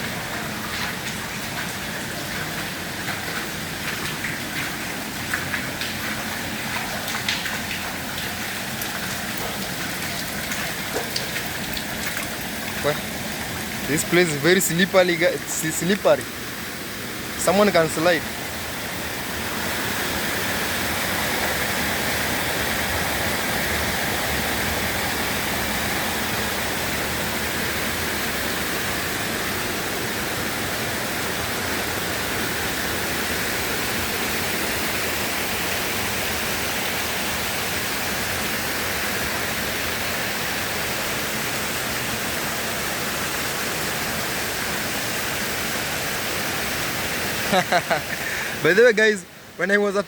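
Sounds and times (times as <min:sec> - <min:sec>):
water pouring down waterfall: 0:00.0 - 0:50.0.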